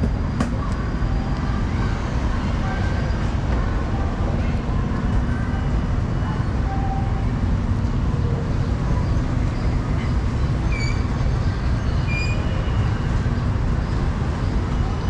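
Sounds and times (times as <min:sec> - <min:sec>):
low urban background rumble: 0:00.0 - 0:15.0.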